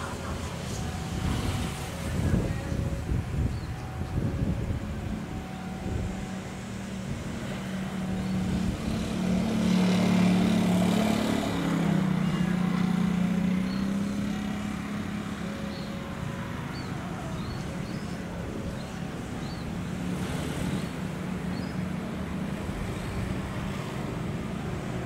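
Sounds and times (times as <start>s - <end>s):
rail vehicle passing: 0.0s - 25.0s.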